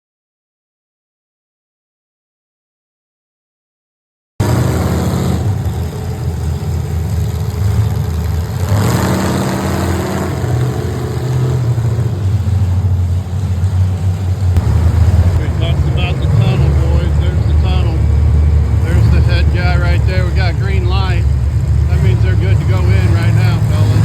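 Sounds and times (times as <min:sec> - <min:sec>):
race car engine revving: 0:04.4 - 0:24.0
race car engines running: 0:04.4 - 0:24.0.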